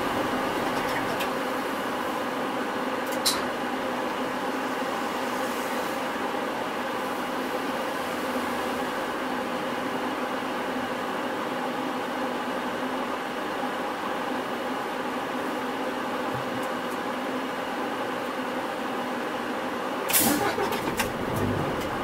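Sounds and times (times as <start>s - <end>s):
bus cabin drone: 0.0s - 22.0s.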